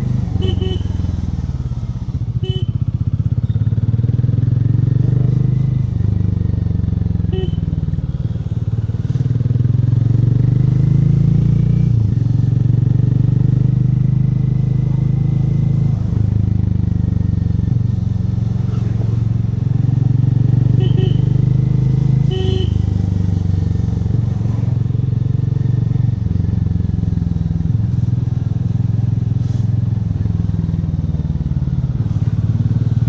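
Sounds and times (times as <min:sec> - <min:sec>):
motorcycle engine low pulsing: 0:00.0 - 0:11.0, 0:11.9 - 0:33.0.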